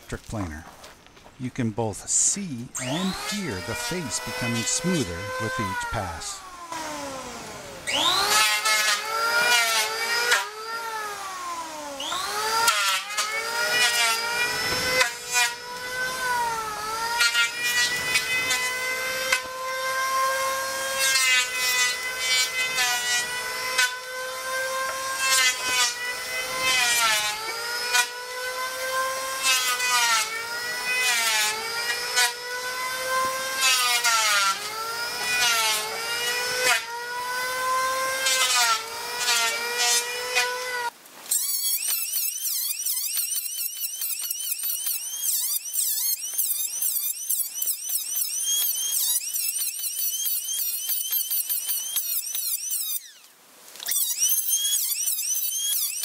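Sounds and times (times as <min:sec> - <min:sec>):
electric planer cutting wood: 0:02.8 - 0:41.0, 0:41.6 - 0:56.0.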